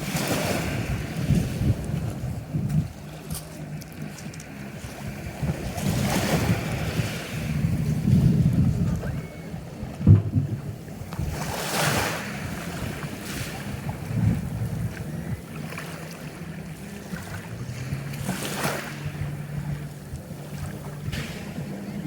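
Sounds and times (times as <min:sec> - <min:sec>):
sea surf washing in: 0:00.0 - 0:22.0
wind rumbling on microphone: 0:00.0 - 0:22.0.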